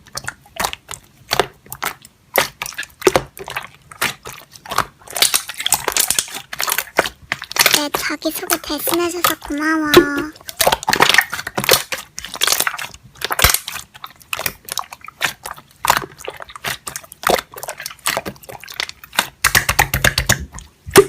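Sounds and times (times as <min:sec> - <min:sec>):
slime squeezed by hand: 0:00.1 - 0:21.0.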